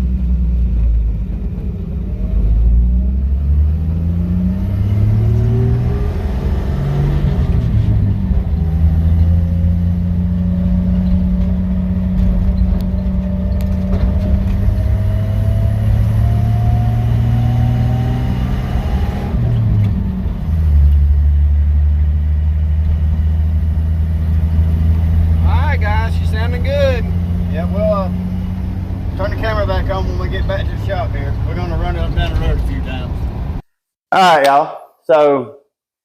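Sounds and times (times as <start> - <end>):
car engine revving and droning: 0.0 - 33.6.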